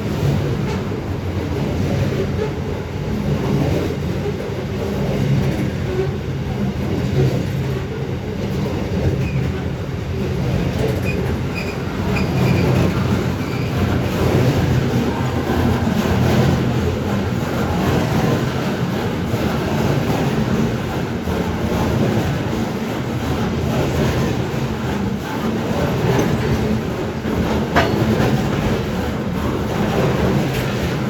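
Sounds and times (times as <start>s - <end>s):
diesel locomotive hum: 0.0s - 31.0s
train wagons rolling on rails: 0.0s - 31.0s.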